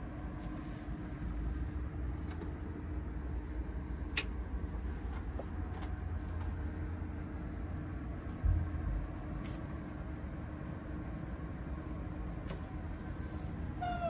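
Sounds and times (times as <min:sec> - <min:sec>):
constant hum: 0:00.0 - 0:14.0
low rumble in truck cab: 0:00.0 - 0:14.0.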